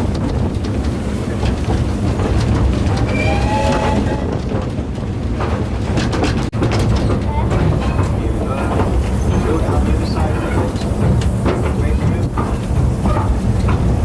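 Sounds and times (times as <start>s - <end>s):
train carriages rumbling: 0.0s - 14.0s
wheels clicking on track: 0.0s - 14.0s.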